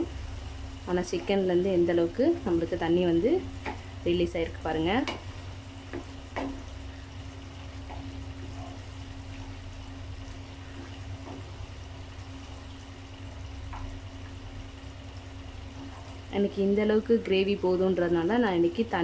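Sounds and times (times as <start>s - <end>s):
gravy bubbling in a pan: 0.0s - 17.7s
steady low hum: 0.0s - 19.0s.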